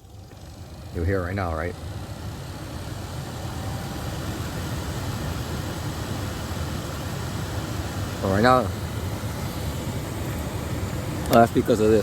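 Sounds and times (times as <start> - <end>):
car engine idling: 0.0 - 12.0
climate blower hiss: 0.0 - 12.0.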